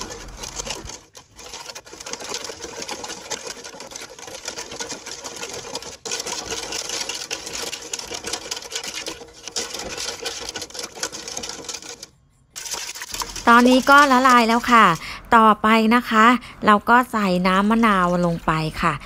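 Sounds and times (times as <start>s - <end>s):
ladle scraping aluminium pot: 0.0s - 15.2s, 17.5s - 19.0s.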